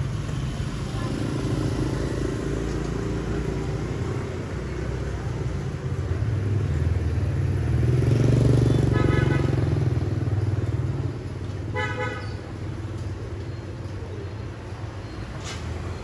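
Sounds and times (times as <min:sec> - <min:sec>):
motorbikes passing: 0:00.0 - 0:16.0.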